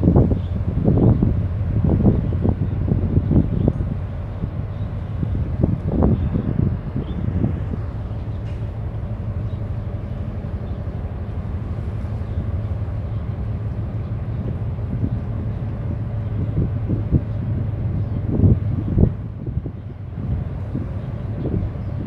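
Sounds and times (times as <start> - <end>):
ship engines droning: 0.0 - 22.0
wind buffeting microphone: 0.0 - 22.0.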